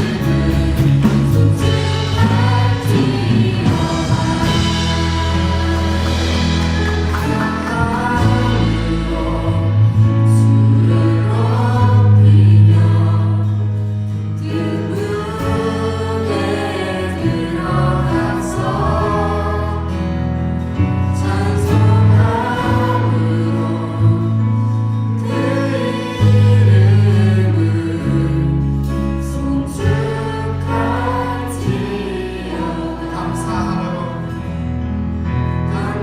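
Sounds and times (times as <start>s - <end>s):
band with strong bass: 0.0s - 36.0s
voices singing together: 0.0s - 36.0s.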